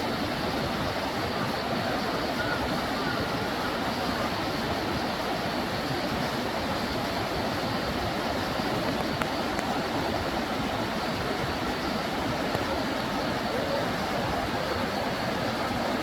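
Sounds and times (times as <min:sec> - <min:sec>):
stream running water: 0:00.0 - 0:16.0.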